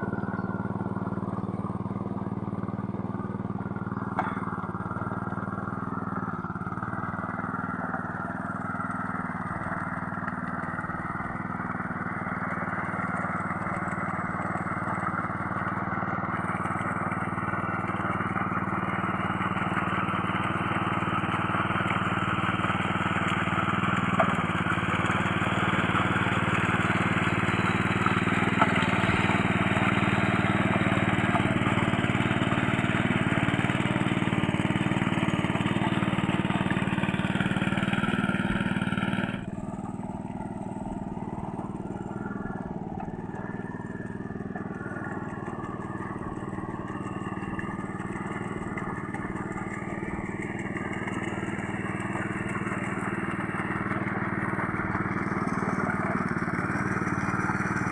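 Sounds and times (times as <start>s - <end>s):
small tractor engine running: 0.0s - 57.9s.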